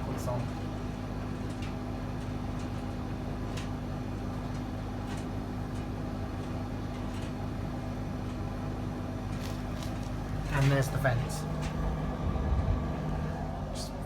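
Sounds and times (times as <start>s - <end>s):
tumble dryer humming: 0.0s - 14.0s.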